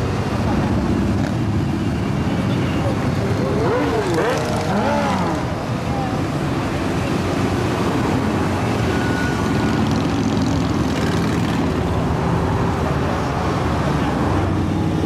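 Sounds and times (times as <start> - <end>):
motorcycles riding past: 2.8 - 15.0.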